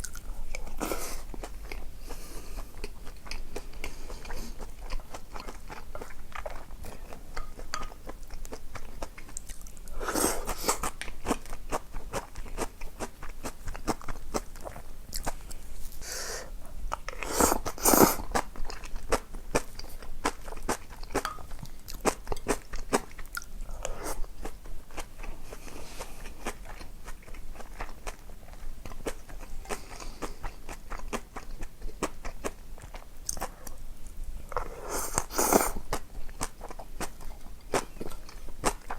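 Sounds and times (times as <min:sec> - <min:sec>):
person chewing crunchy food: 0:00.0 - 0:33.8, 0:34.4 - 0:38.9.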